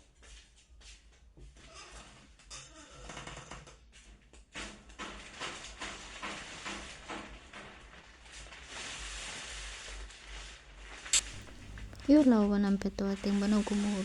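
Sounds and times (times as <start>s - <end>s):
rustling and scraping of handled items: 0.0s - 14.0s.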